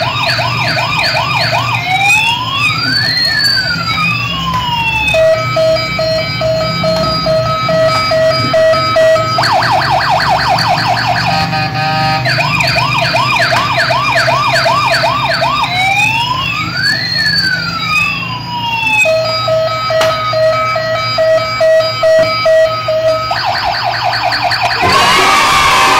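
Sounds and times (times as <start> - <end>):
toy siren wailing: 0.0 - 25.9.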